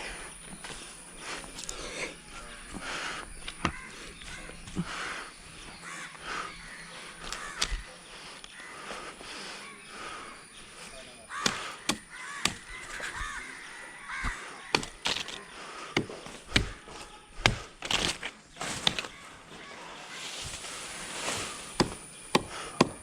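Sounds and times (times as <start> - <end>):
crows cawing: 1.6 - 20.8.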